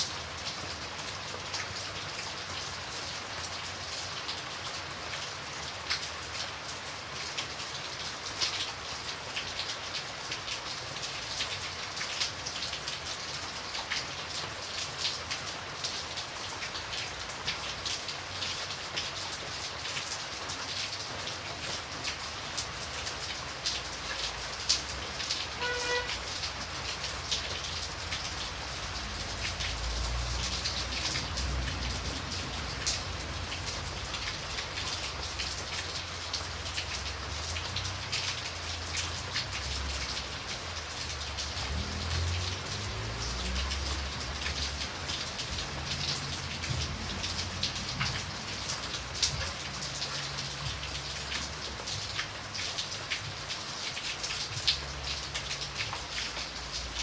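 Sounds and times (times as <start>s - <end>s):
raindrops pattering: 0.0s - 57.0s.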